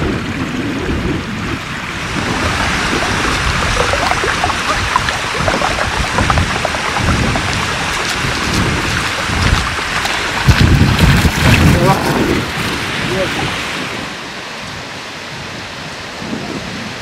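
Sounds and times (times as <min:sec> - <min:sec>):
water gushing as heavy spray: 0:00.4 - 0:14.2
water splashes: 0:00.4 - 0:14.4.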